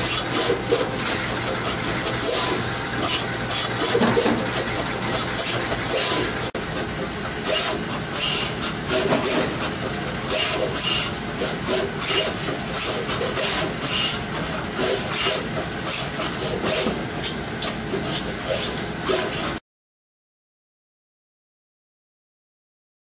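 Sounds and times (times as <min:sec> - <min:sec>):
machinery humming: 0:00.0 - 0:19.6.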